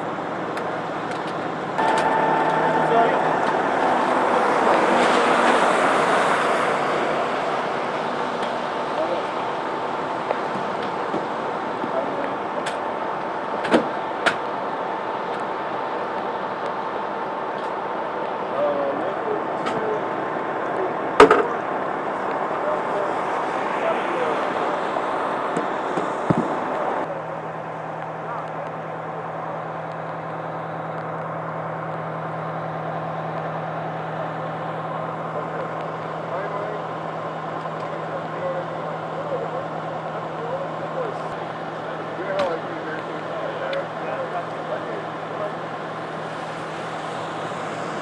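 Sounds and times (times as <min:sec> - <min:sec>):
engine running: 0:00.0 - 0:48.0
traffic: 0:00.0 - 0:48.0
faint steady tone: 0:01.7 - 0:48.0.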